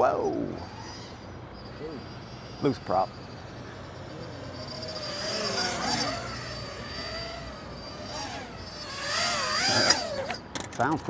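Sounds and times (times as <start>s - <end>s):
quadcopter motor and propeller whine: 0.0s - 11.0s.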